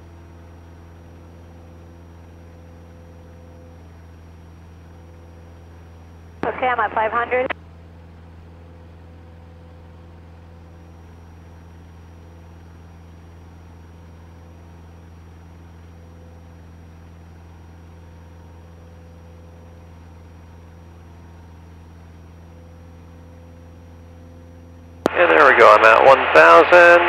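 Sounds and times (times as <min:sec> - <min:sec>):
faint high whine: 0:00.0 - 0:07.6, 0:08.4 - 0:27.0
airplane engine and propeller drone: 0:00.0 - 0:27.0.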